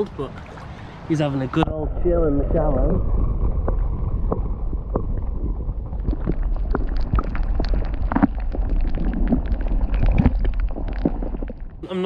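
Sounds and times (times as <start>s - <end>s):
underwater stream rumble: 0.0s - 11.9s.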